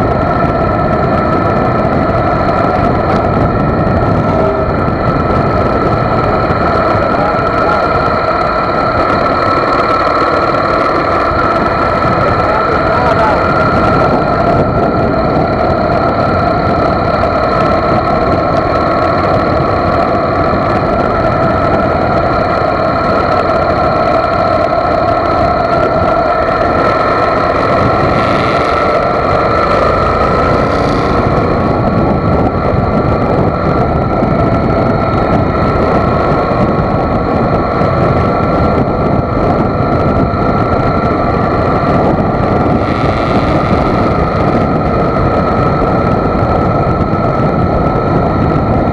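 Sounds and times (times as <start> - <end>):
motorcycle engine drone: 0.0 - 48.9
wind and road noise: 0.0 - 48.9.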